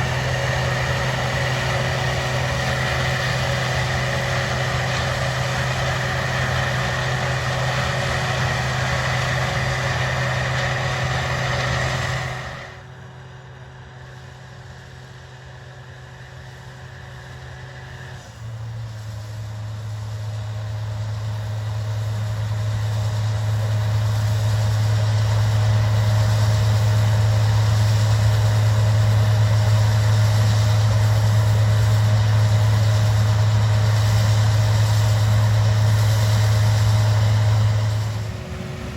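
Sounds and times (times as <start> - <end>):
harvester engine hum: 0.0 - 38.9
second engine hum: 0.0 - 38.9.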